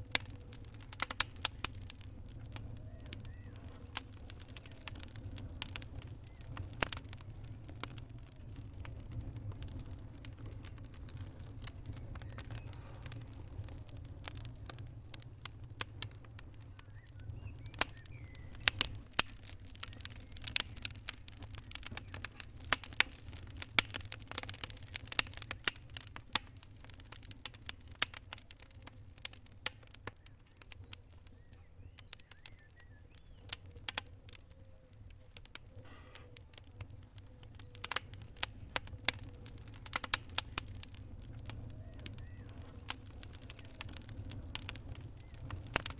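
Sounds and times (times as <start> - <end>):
low rumble of burning: 0.0 - 45.9
wood fire crackling and popping: 0.0 - 45.9.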